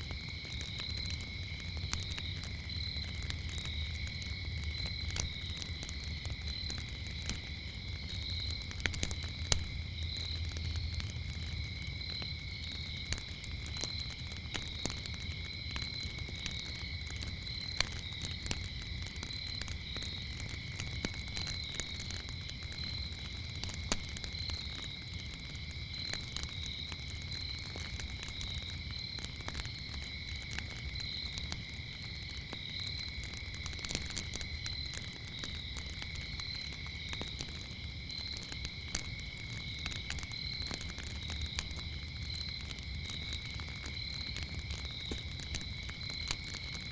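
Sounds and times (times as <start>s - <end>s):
crickets chirping: 0.0s - 46.9s
wood fire crackling and popping: 0.0s - 46.9s.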